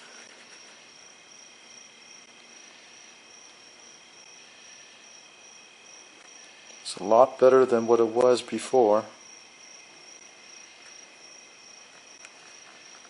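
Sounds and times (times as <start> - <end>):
faint high-pitched whine: 0.0 - 13.0
low hiss: 0.0 - 13.0.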